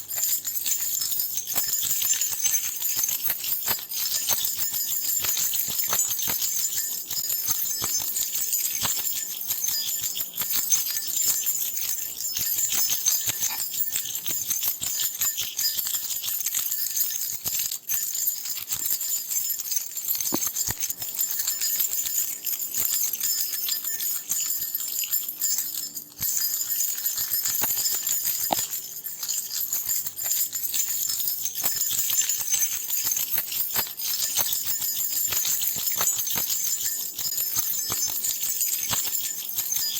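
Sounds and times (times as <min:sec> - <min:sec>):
keys jangling: 0:00.0 - 0:39.9.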